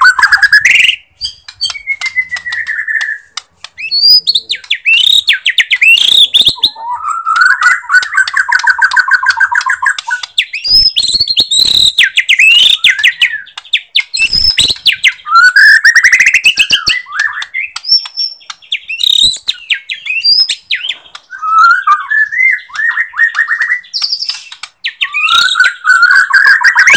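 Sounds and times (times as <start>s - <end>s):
bird singing: 0.0s - 26.9s.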